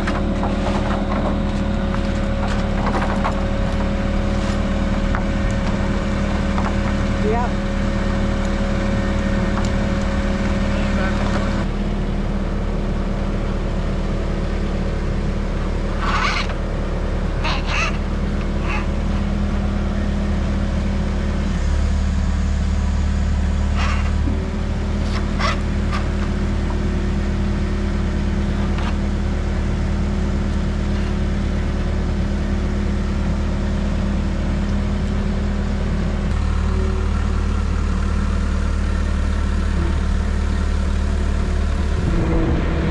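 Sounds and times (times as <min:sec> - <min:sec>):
lifting machine engine running: 0:00.0 - 0:42.9.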